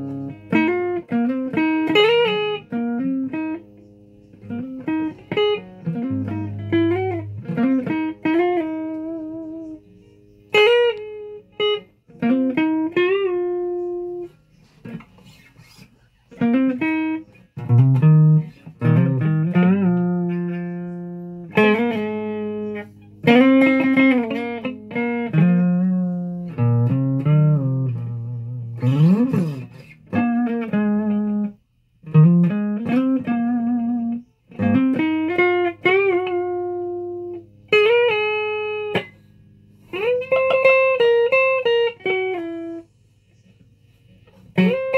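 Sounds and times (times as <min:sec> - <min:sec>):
guitar notes bending and sliding: 0:00.0 - 0:44.9.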